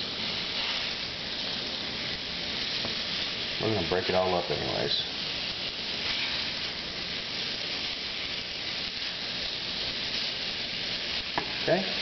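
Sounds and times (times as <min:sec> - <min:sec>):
sausage sizzling in a pan: 0:00.0 - 0:12.0.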